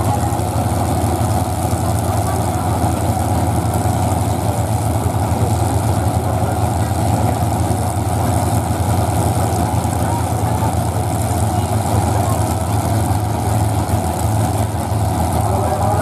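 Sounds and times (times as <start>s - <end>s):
car engines idling: 0.0s - 16.0s.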